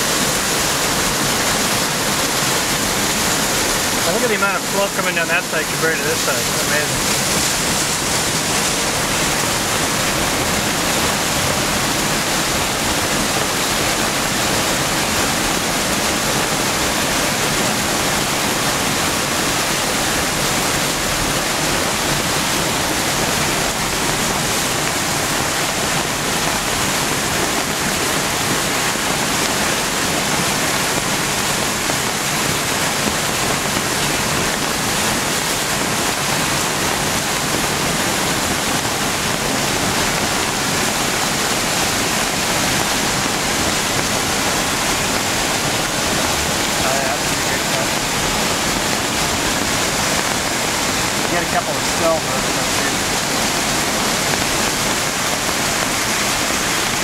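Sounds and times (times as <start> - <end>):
water rushing and churning: 0.0 - 57.0.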